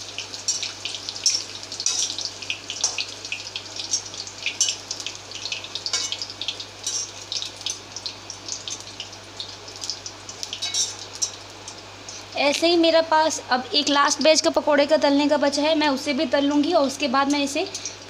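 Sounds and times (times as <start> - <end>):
hot oil sizzling and popping: 0.0 - 18.0.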